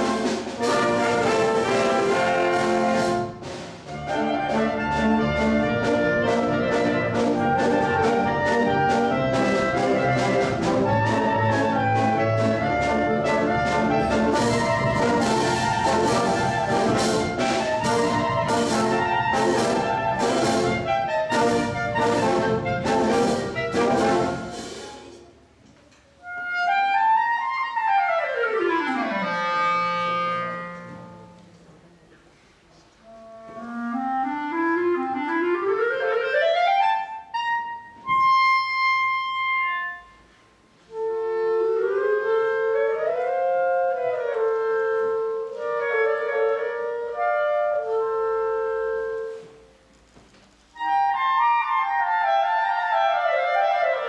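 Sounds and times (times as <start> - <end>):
solo clarinet playing: 0.0 - 25.2, 26.2 - 31.4, 33.0 - 49.8, 50.7 - 54.0
wind band playing: 0.0 - 25.6, 26.2 - 31.5, 33.0 - 49.8, 50.6 - 54.0.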